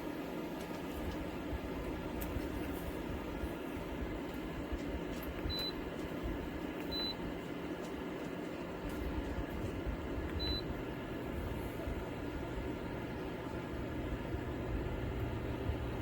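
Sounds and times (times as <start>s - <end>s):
space heater fan blowing: 0.0s - 16.0s.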